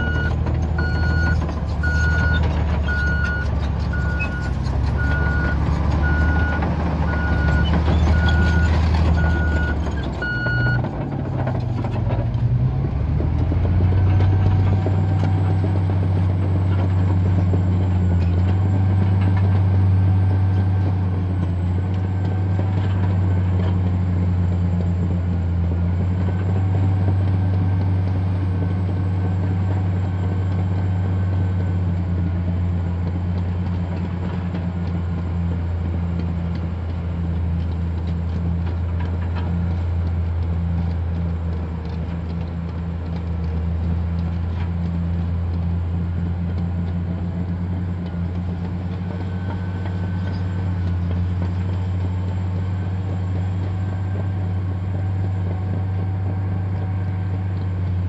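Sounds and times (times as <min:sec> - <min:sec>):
bulldozer diesel engine under load: 0:00.0 - 0:58.0
bulldozer pushing soil: 0:00.0 - 0:58.0.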